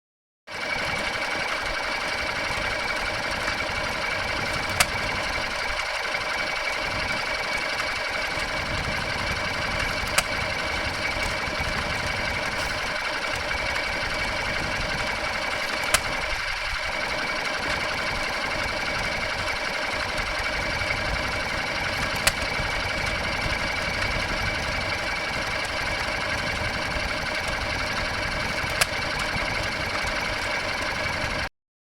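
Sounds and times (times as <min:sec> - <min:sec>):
stationary engine running: 0:00.5 - 0:31.5.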